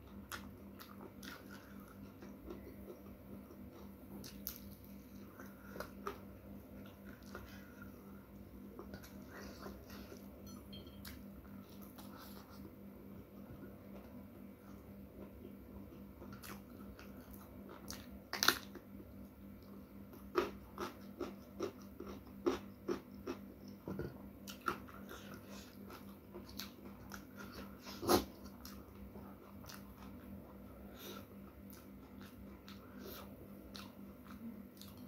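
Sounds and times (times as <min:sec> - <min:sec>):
chewing and crunching food: 0:00.0 - 0:35.0.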